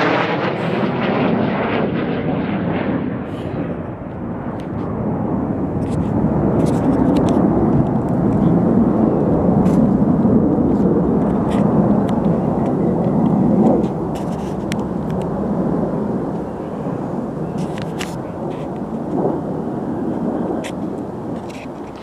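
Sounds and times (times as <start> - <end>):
airplane flying overhead: 0.0 - 22.0.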